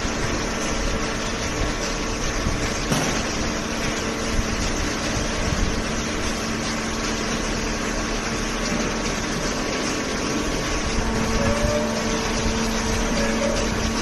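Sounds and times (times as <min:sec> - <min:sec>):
baler machine hum: 0:00.0 - 0:14.0.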